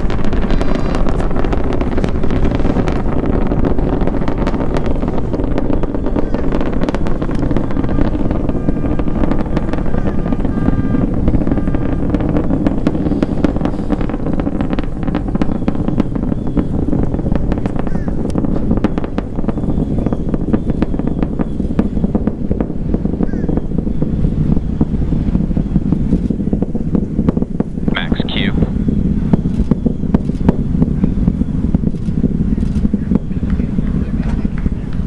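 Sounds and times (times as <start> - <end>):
rocket engines rumbling and crackling: 0.0 - 35.0.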